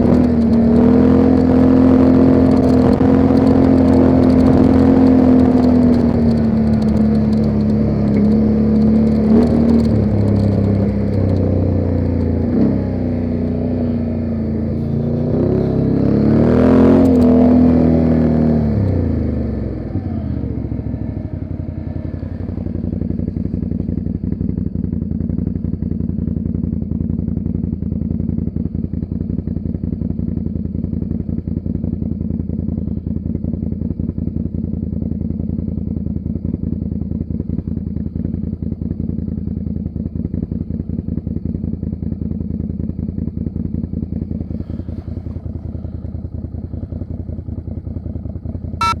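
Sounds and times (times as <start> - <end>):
atv engine idling: 0.0 - 49.0.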